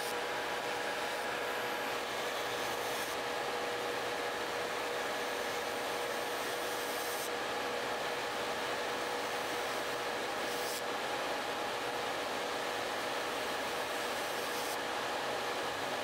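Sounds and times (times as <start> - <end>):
dust collector fan rushing: 0.0 - 16.0
electric nail drill whine: 0.0 - 16.0.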